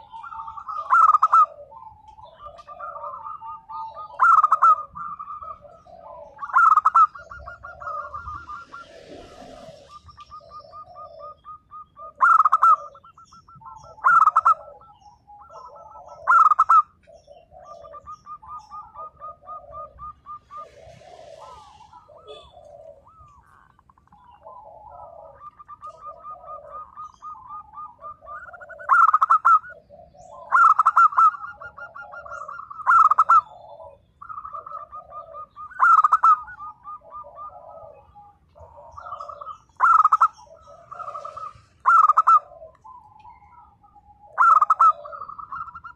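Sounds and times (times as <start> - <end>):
doves cooing and trilling: 0.0 - 45.9
loud emphatic dove coos: 0.0 - 45.9.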